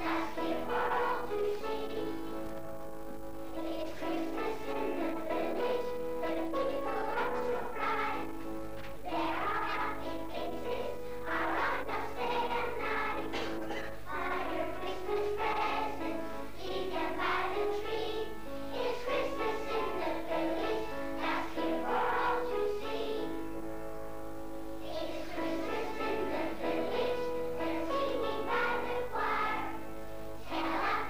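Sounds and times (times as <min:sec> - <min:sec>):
children singing: 0:00.0 - 0:02.4, 0:03.6 - 0:08.4, 0:09.0 - 0:23.5, 0:24.8 - 0:29.8, 0:30.4 - 0:31.0.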